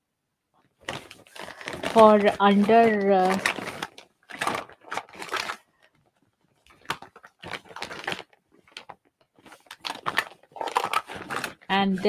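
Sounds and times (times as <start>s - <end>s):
makeup items rustling and clattering: 0.6s - 12.0s.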